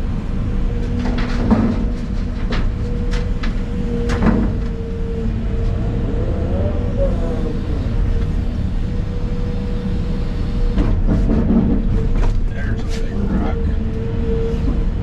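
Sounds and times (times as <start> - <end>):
excavator diesel engine whining: 0.0 - 15.0.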